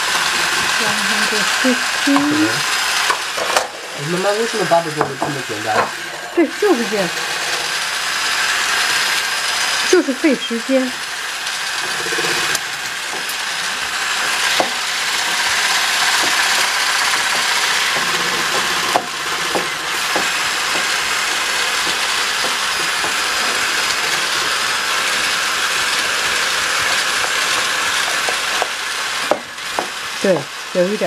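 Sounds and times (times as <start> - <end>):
electric hand mixer running: 0.0 - 31.0.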